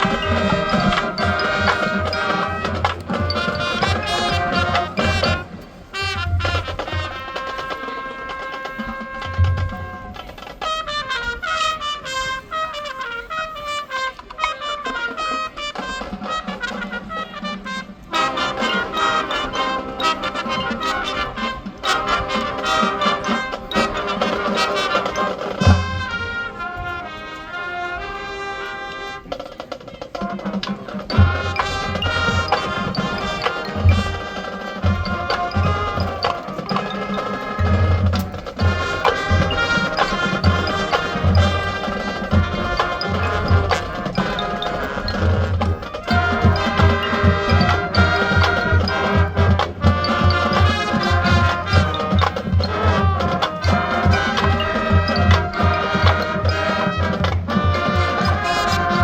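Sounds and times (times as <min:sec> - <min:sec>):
brass melody: 0:00.0 - 0:59.0
marching percussion: 0:00.0 - 0:59.0.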